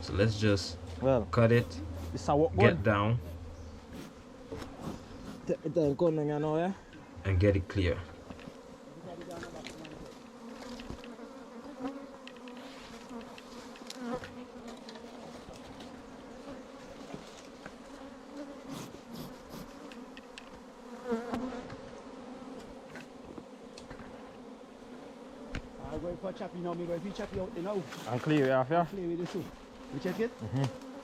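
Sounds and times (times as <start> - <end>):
bees buzzing: 0.0 - 31.0
bee flying past: 0.4 - 5.6, 7.0 - 31.0.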